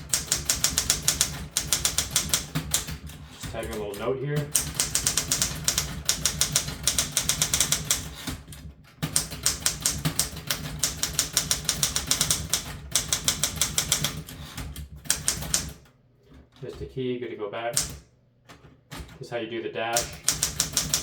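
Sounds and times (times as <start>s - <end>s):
manual typewriter typing: 0.0s - 15.9s, 17.7s - 21.0s.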